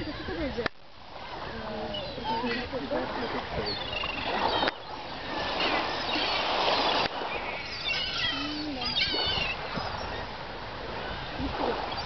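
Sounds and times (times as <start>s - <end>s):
gulls calling: 0.0s - 12.0s
wind hiss: 0.0s - 12.0s.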